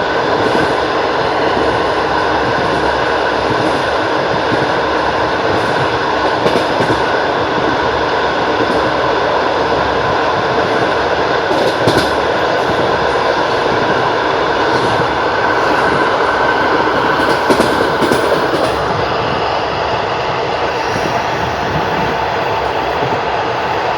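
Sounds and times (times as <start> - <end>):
train carriage rumble and rattle: 0.0 - 23.9.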